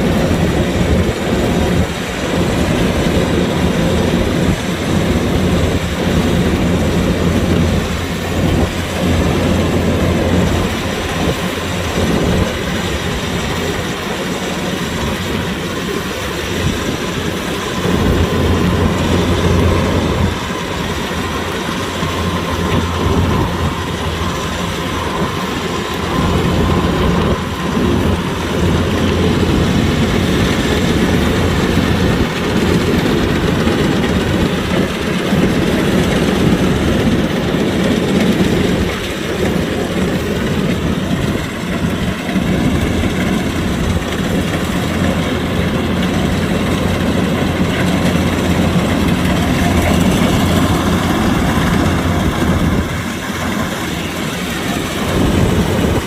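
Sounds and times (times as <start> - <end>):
combine harvester engine drone: 0.0 - 56.0
machinery rattling and clattering: 0.0 - 56.0.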